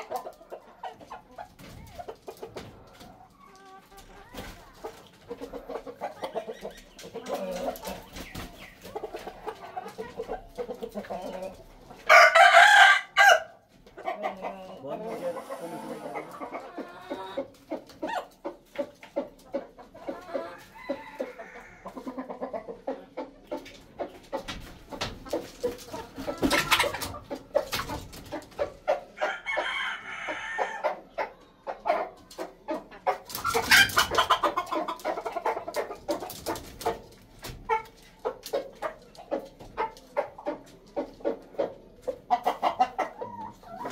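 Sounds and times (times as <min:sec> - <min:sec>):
junglefowl clucking: 0:00.0 - 0:43.9.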